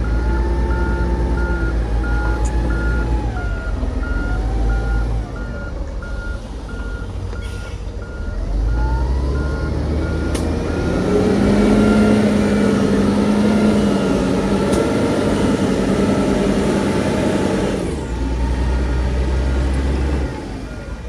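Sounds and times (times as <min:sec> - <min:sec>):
heavy diesel engine revving: 0:00.0 - 0:21.0
reversing alarm beeping: 0:00.0 - 0:21.0.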